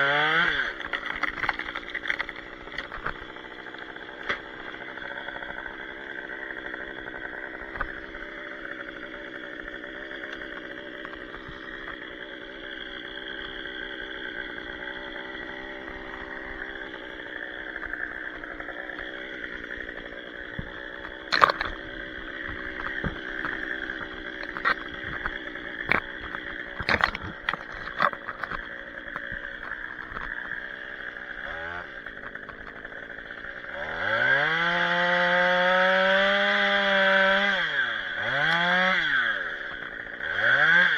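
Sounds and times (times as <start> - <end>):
chainsaw engine idling and revving: 0.0 - 40.9.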